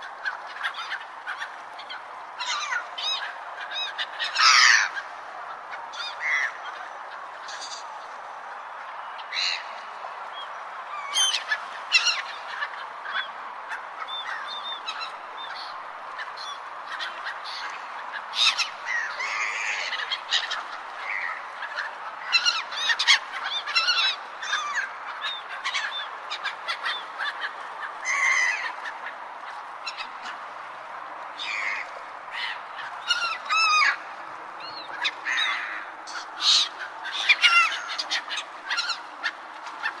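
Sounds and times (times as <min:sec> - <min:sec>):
seagulls calling: 0:00.0 - 0:40.0
steady background hiss: 0:00.0 - 0:40.0.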